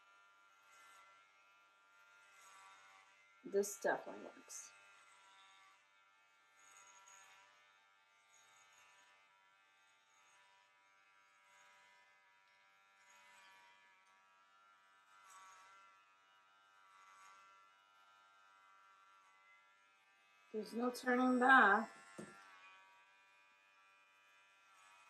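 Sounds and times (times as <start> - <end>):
electric hair clippers buzzing: 0.0 - 25.0.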